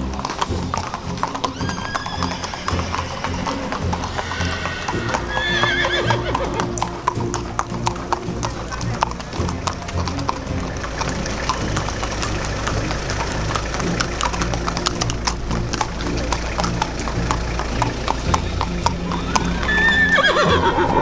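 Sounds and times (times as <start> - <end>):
horse whinnying: 0.0 - 17.8, 18.8 - 21.0
hooves clip-clopping on asphalt: 0.0 - 21.0.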